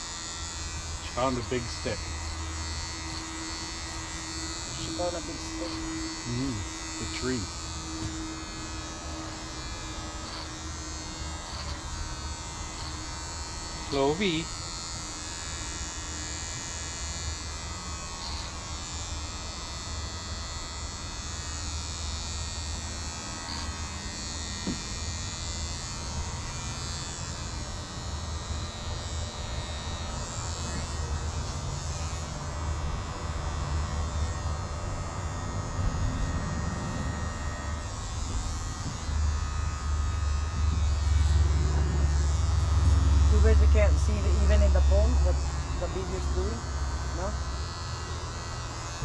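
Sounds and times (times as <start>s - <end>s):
electric hair clippers buzzing: 0.0s - 49.0s.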